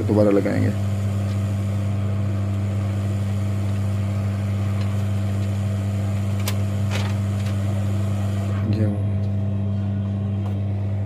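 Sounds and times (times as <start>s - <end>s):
electrical hum and buzz: 0.0s - 11.0s.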